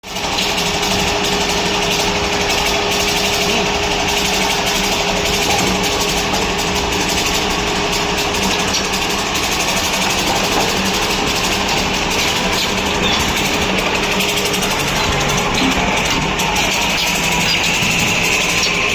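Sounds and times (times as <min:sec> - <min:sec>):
machine whirring: 0:00.0 - 0:18.9
constant low hum: 0:00.1 - 0:18.9.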